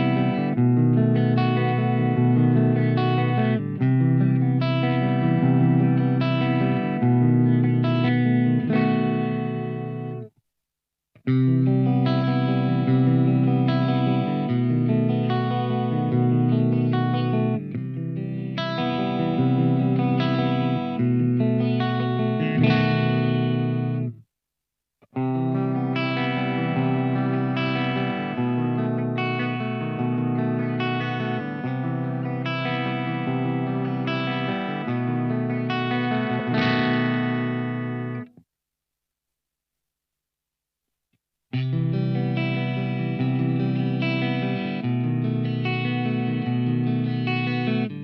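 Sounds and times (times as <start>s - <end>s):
electric guitar chords: 0.0s - 10.3s, 11.2s - 24.2s, 25.1s - 38.4s, 41.5s - 48.0s.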